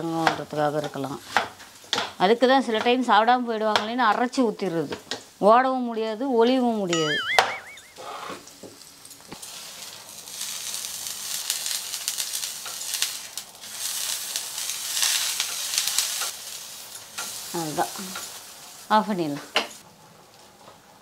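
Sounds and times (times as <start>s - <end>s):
tofu sizzling on a hot pan: 0.0s - 6.9s, 8.0s - 21.0s.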